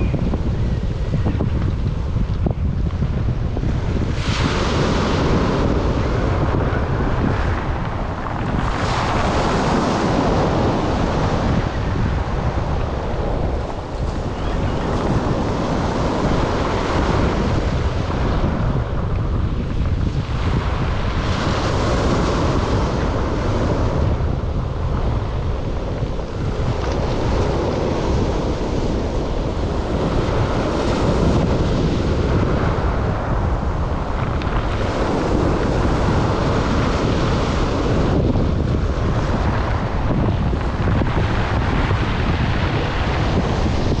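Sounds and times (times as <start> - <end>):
waves breaking on shore: 0.0 - 44.0
wind buffeting microphone: 0.0 - 44.0.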